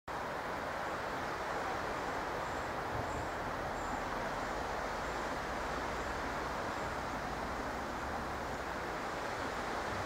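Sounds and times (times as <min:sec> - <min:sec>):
outdoor hiss: 0:00.1 - 0:10.0
train rumble: 0:00.7 - 0:10.0.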